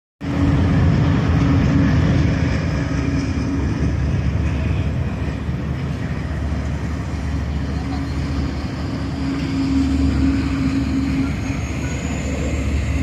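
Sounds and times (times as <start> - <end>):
train passing rumble: 0.2 - 13.0.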